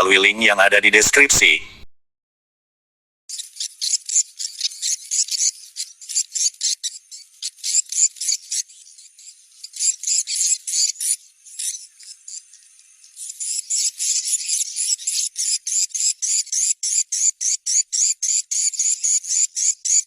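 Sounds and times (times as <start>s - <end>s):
high twittering bird chirps: 3.3s - 20.0s.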